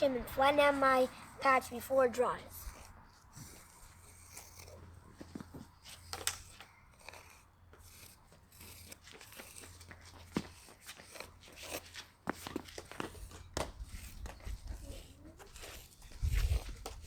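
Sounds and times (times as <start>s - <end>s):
wooden shim scraping pavement: 0.0s - 17.0s.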